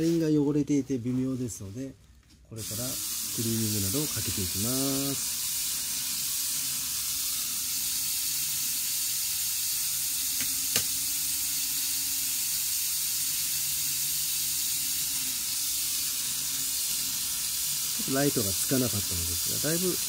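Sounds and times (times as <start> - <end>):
model train hiss and hum: 2.6 - 20.0.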